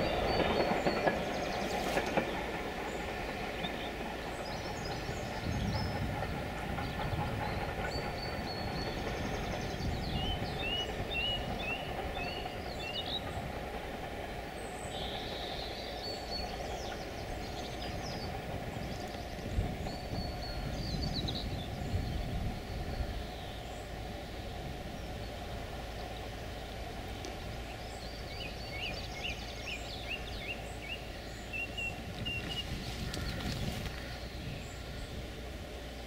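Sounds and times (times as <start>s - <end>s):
birds chirping: 0.0s - 36.0s
distant train rumbling on rails: 0.0s - 36.0s.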